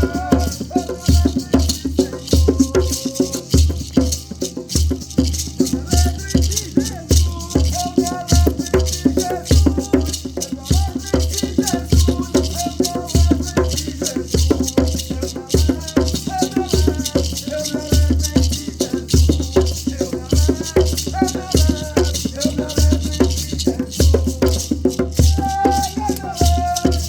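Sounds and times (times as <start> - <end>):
rattles shaking: 0.0 - 27.0.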